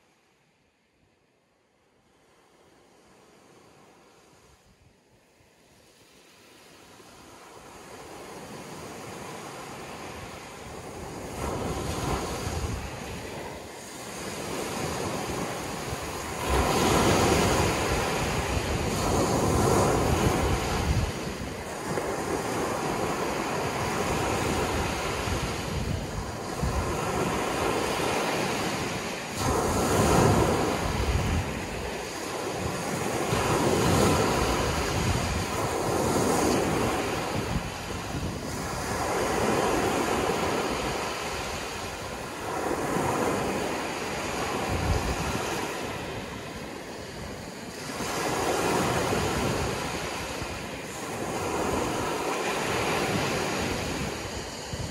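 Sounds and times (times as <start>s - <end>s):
ocean waves breaking: 5.3s - 54.9s.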